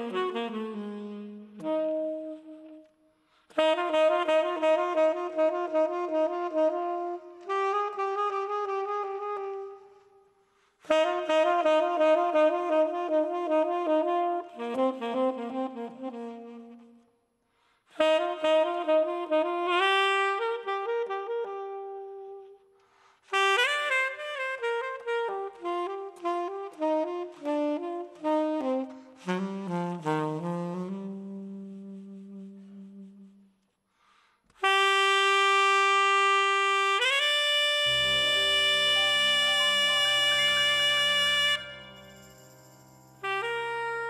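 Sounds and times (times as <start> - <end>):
solo saxophone jazz ballad: 0.0 - 42.6, 43.2 - 44.0.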